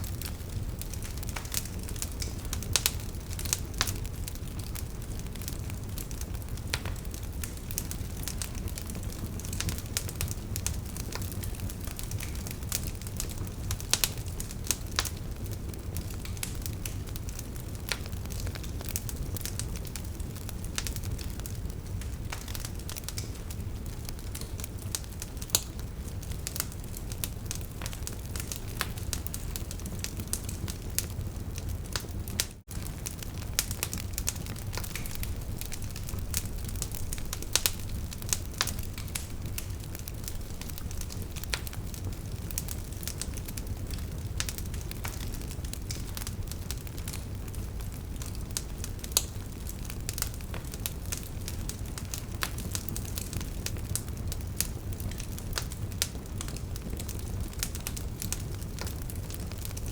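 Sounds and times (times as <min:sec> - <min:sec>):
fire low rumble: 0:00.0 - 0:59.9
wood fire crackling: 0:00.0 - 0:59.9.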